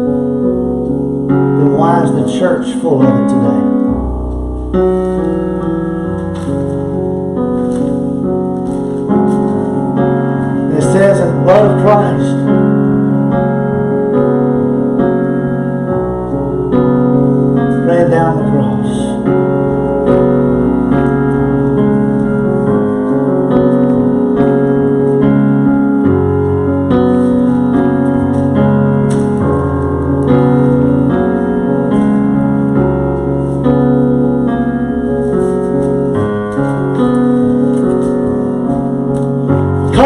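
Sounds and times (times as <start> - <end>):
slow keyboard music: 0.0 - 40.0.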